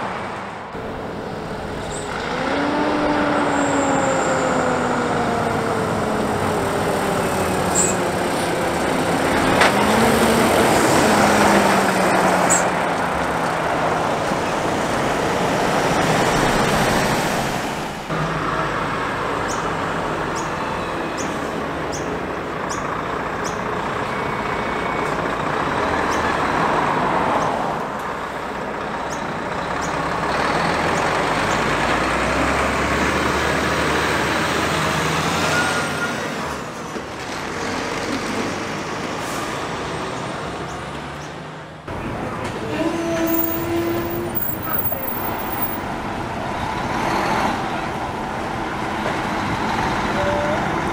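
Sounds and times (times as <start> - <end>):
diesel engines running: 0.0 - 50.9
trucks driving past: 0.0 - 50.9
tyre and road noise: 0.0 - 50.9.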